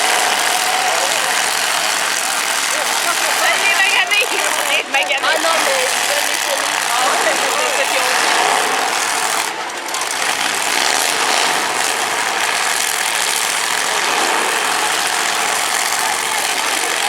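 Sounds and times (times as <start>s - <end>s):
car engines running loudly: 0.0s - 17.0s.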